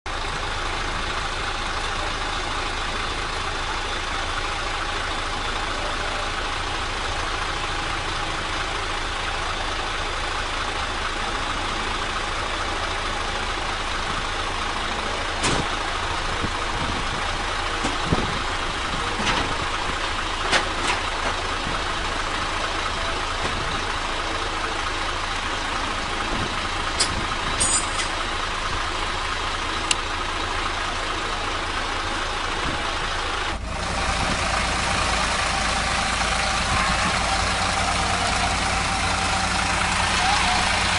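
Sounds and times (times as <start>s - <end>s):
engine drone with pulsing rumble: 0.1s - 40.9s.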